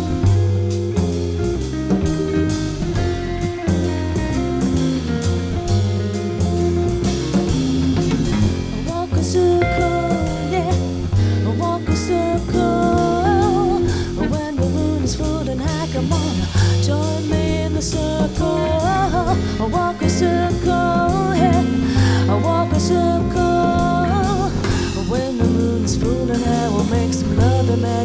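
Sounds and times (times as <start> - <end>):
instrumental band music: 0.0 - 28.0
wavering lead melody: 0.0 - 28.0.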